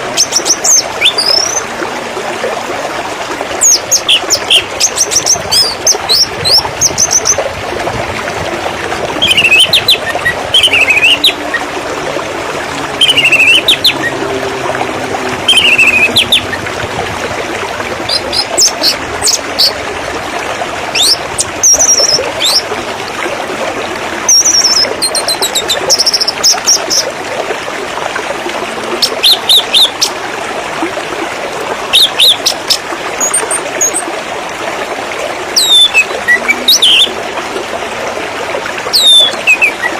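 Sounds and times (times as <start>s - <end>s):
water splashing: 0.0s - 39.9s.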